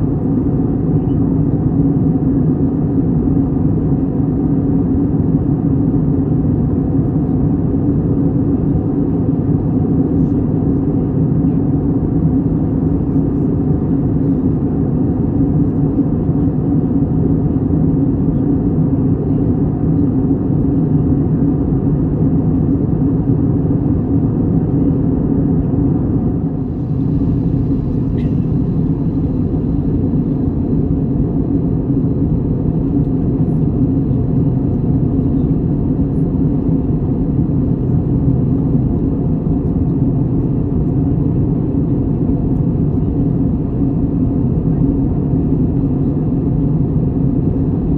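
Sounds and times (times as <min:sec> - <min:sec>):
low engine drone: 0:00.0 - 0:47.9.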